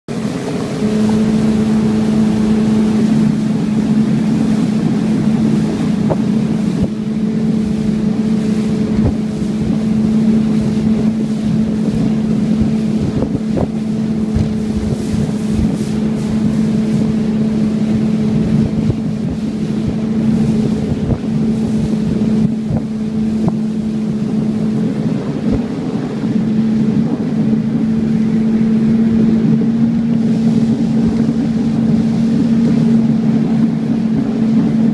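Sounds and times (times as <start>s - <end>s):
outboard motor hum: 0.0s - 34.9s
wind buffeting microphone: 0.1s - 34.9s.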